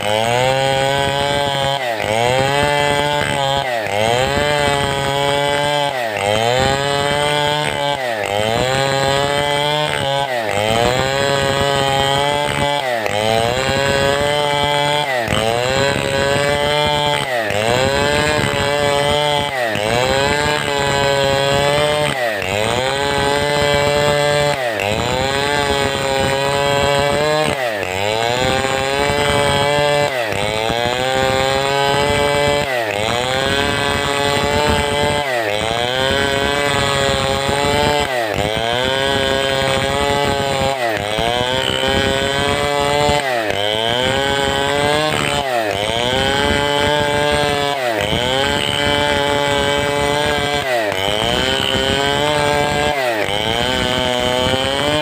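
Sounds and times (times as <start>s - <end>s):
chainsaw cutting timber: 0.0s - 55.0s.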